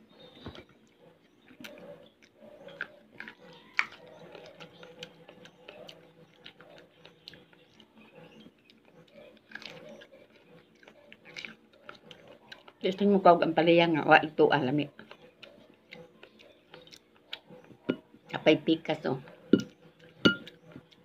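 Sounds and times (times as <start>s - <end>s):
person chewing food: 0.0s - 13.1s, 14.9s - 18.4s, 19.2s - 21.0s.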